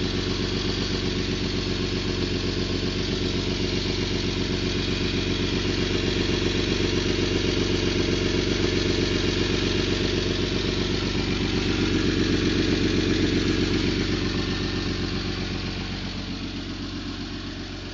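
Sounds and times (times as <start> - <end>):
car engine idling: 0.0 - 17.9
exhaust leak pulsing: 0.0 - 17.9.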